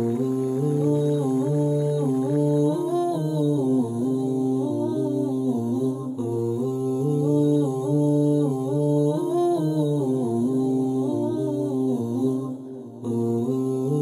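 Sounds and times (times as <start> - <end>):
wordless vocal melody: 0.0 - 14.0.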